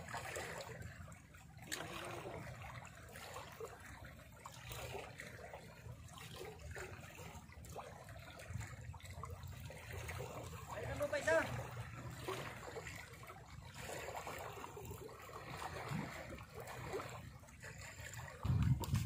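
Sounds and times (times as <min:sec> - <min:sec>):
sea water lapping on rocks: 0:00.0 - 0:19.0.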